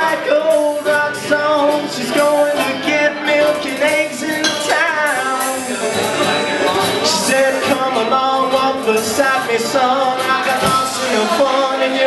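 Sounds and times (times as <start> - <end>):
acoustic guitar: 0.0 - 12.0
drums with cymbals: 0.0 - 12.0
man singing: 0.0 - 12.0.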